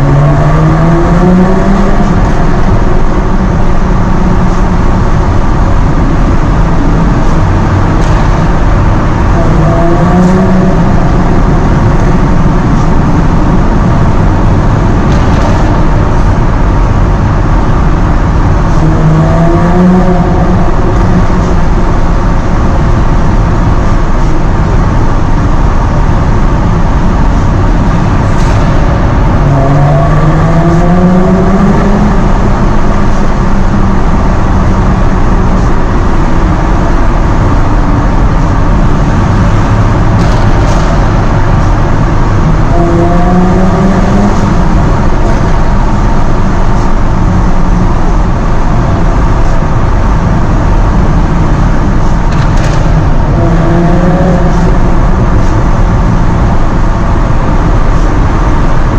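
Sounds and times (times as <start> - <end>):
loud steady rush: 0.0 - 58.9
sports car engine accelerating: 0.0 - 58.9.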